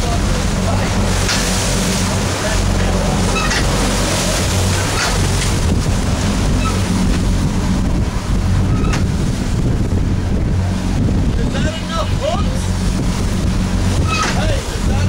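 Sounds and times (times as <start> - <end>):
boat engine running: 0.0 - 15.0
water rushing along hull: 0.0 - 15.0
wind buffeting microphone: 0.0 - 15.0.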